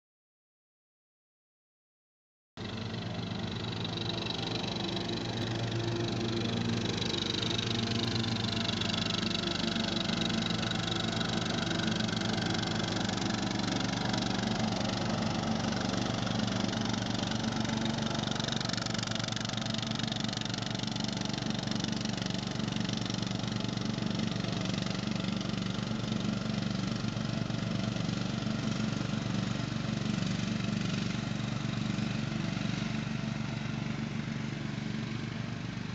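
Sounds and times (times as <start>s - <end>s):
lawn mower engine running: 2.6s - 35.9s.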